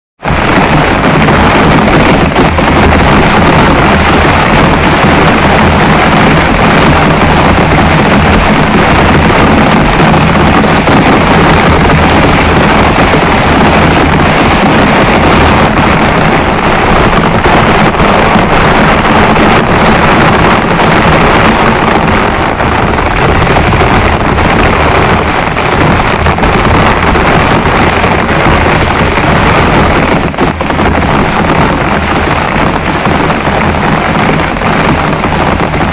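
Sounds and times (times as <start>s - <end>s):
heavy rain pouring: 0.2s - 35.9s
low steady hum: 0.3s - 35.9s.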